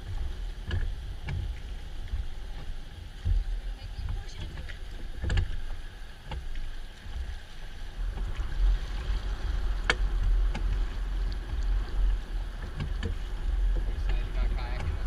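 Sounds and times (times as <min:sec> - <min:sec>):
oars splashing in water: 0:00.0 - 0:15.0
steady low rumble: 0:00.0 - 0:15.0.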